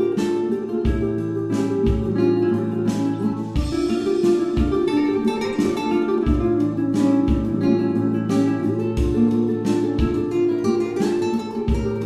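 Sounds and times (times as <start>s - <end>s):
plucked acoustic guitar music: 0.0s - 12.0s
steady low beat: 0.0s - 12.0s.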